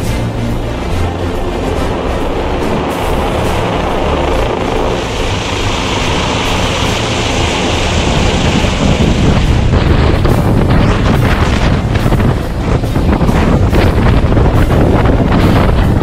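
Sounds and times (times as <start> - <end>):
helicopter hovering overhead: 0.0 - 16.0.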